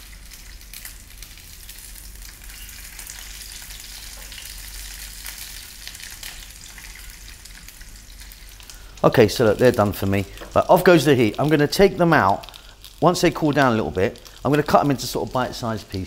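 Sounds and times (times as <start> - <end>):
fat crackling: 0.0 - 16.0
sausages sizzling in a pan: 0.0 - 16.0.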